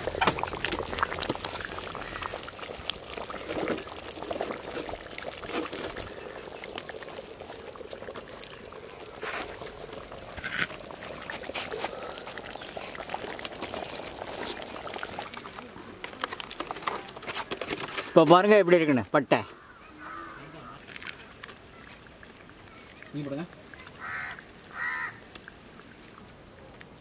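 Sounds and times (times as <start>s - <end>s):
curry bubbling and popping: 0.0s - 27.0s.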